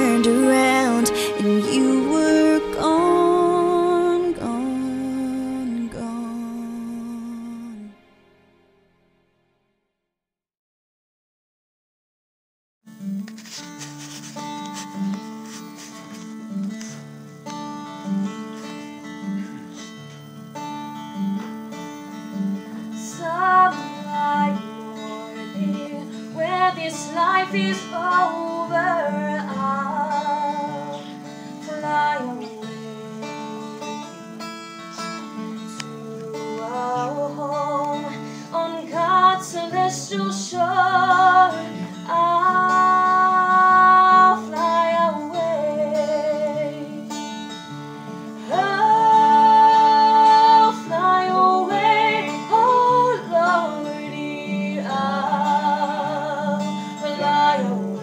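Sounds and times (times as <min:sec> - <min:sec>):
country acoustic guitar music: 0:00.0 - 0:09.1, 0:12.9 - 0:58.0.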